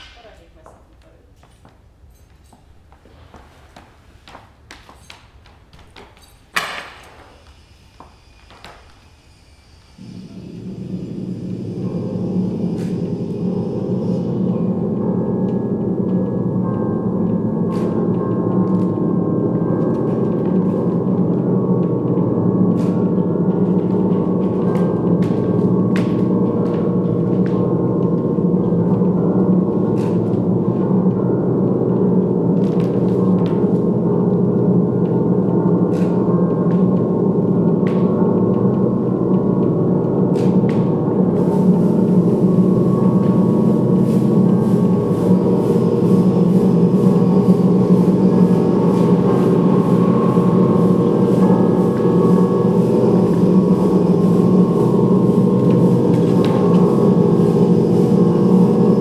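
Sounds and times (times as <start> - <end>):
gong-like drone: 9.2 - 59.0.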